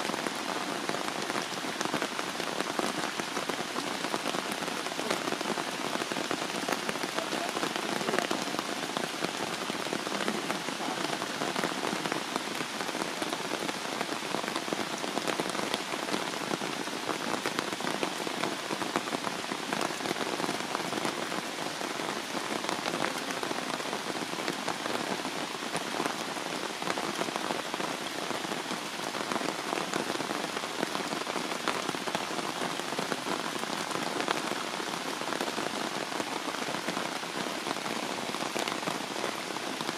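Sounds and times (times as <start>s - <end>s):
heavy rain on stone and leaves: 0.0s - 39.9s.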